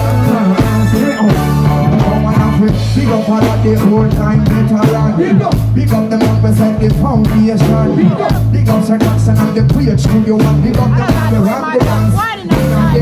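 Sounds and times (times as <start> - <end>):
bass line: 0.0 - 13.0
drum kit: 0.0 - 13.0
person singing: 0.0 - 13.0.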